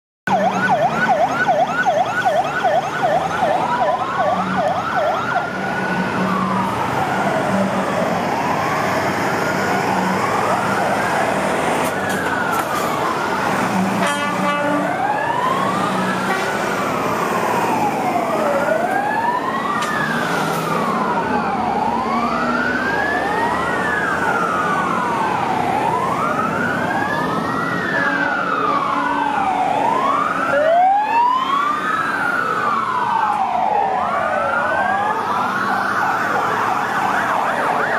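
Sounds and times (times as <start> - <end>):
fire engine siren yelp: 0.3 - 37.9
sirens wailing: 0.3 - 37.9
truck engines running: 0.3 - 37.9.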